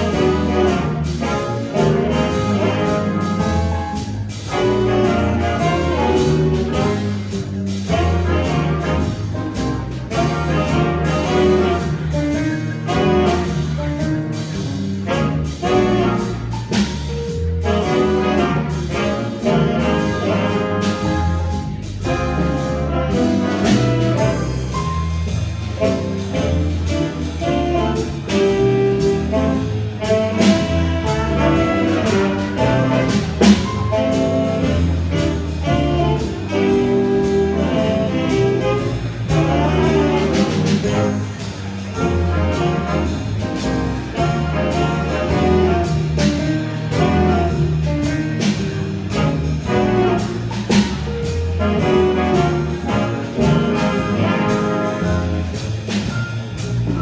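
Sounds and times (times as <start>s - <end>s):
brass group playing: 0.0s - 57.0s.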